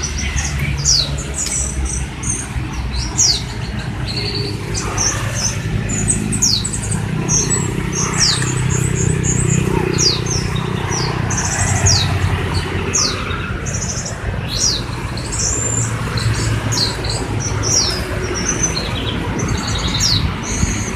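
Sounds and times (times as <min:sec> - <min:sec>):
young songbirds chirping: 0:00.0 - 0:20.9.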